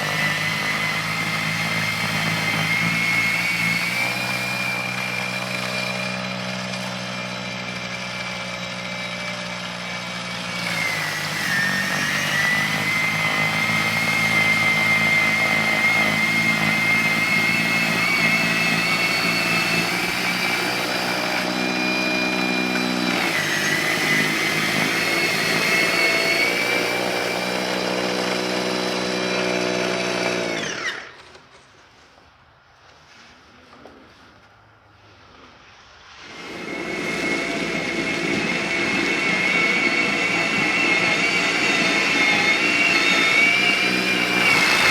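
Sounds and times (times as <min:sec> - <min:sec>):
snow blower electric whine: 0:00.0 - 0:31.6, 0:35.6 - 0:44.9.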